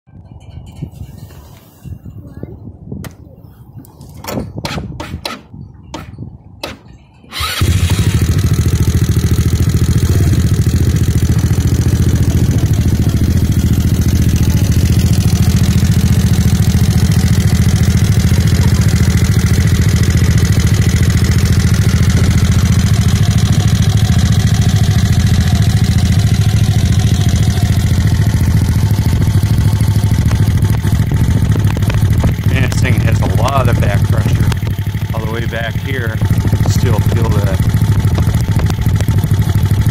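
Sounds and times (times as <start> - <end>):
mini bike engine cranking: 7.3 - 39.9
mini bike engine idling: 7.3 - 39.9.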